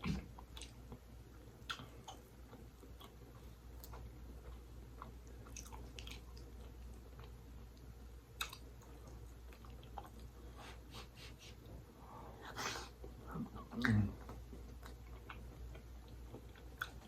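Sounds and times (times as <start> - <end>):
chewing pasta: 0.0 - 10.5, 13.0 - 17.0.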